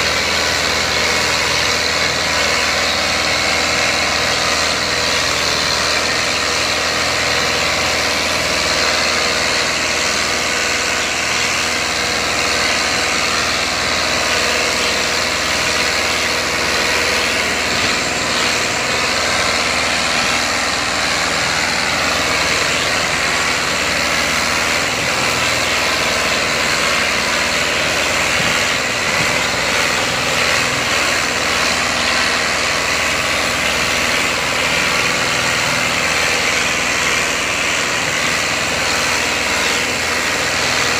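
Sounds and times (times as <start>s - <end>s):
tractor diesel engines under load: 0.0s - 40.9s.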